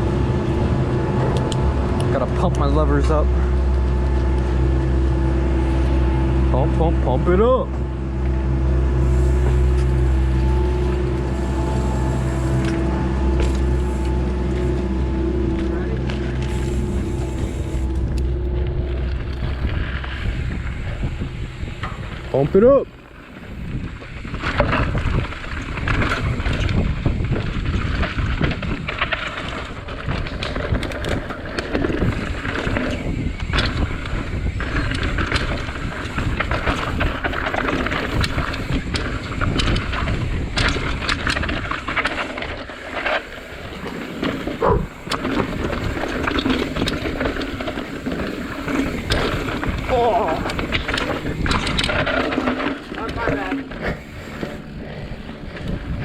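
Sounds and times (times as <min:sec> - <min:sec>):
bike chain and frame rattling: 0:00.0 - 0:56.0
tyres rolling over dirt: 0:00.0 - 0:56.0
wind buffeting microphone: 0:00.0 - 0:56.0.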